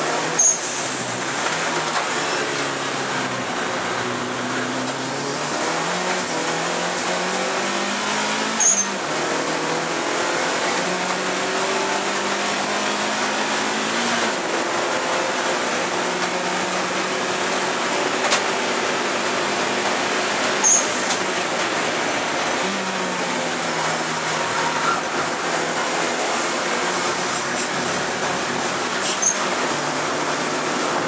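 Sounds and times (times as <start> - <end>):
race car engine pulling hard: 0.0 - 31.0.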